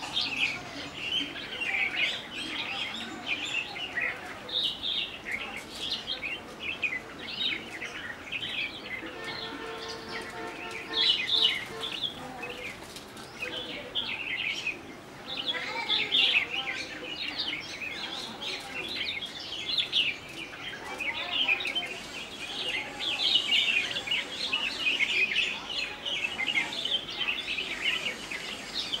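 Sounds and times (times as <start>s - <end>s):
small songbirds chirping: 0.0s - 29.0s.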